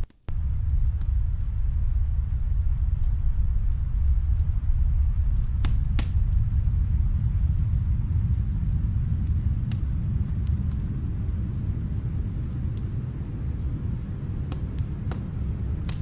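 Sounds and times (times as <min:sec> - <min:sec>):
sharp fire pops: 0:00.0 - 0:11.8, 0:12.4 - 0:16.0
low rumble: 0:00.0 - 0:16.0
wood fire crackling: 0:00.0 - 0:16.0.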